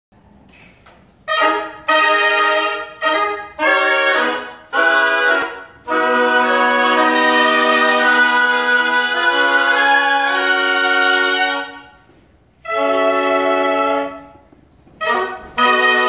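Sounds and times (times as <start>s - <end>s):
wind ensemble chords: 1.2s - 16.0s.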